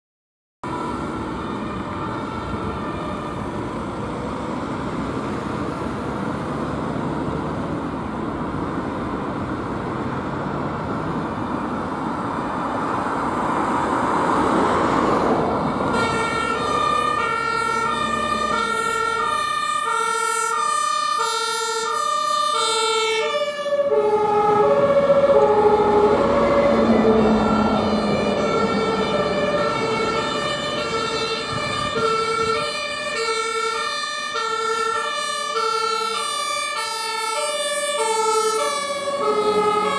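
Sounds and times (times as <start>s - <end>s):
road traffic: 0.6s - 39.9s
two-tone fire engine siren: 0.6s - 39.9s.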